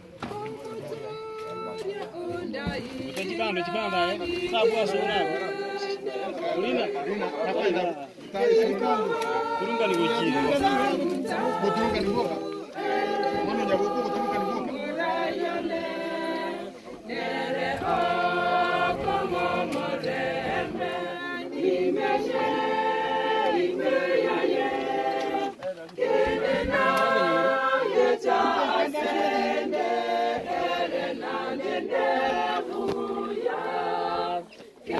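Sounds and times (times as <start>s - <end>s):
group singing unaccompanied: 0.0s - 34.9s.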